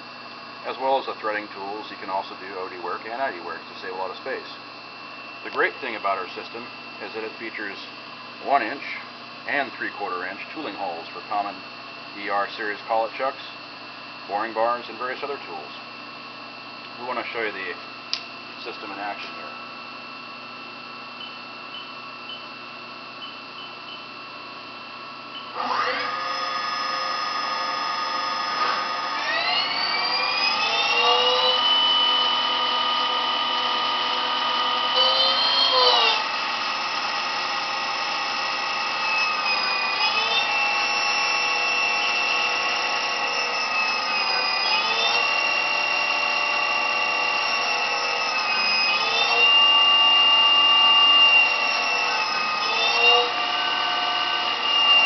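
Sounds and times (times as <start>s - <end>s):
lathe spindle electric whine: 0.0s - 55.0s.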